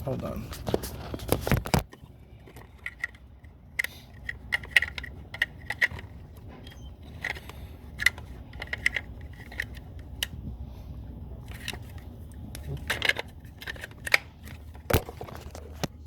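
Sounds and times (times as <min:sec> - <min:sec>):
low background rumble: 0:01.8 - 0:16.0.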